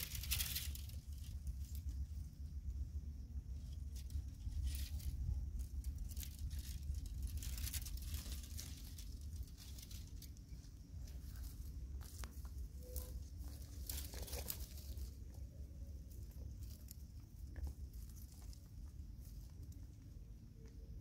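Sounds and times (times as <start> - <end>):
leaves and branches rustling: 0.0 - 20.7
low rumble: 0.0 - 21.0.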